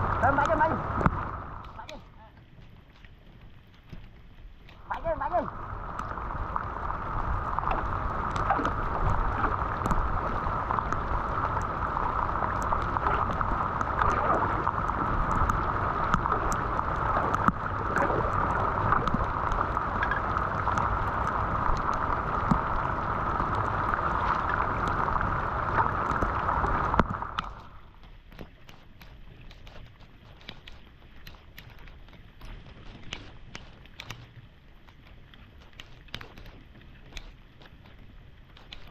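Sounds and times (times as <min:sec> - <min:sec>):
floodwater rushing down storm drain: 0:00.0 - 0:38.9.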